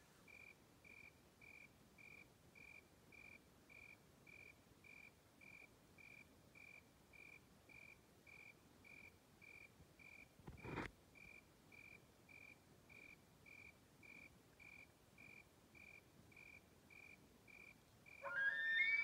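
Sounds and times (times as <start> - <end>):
cricket chirping: 0.3 - 19.0.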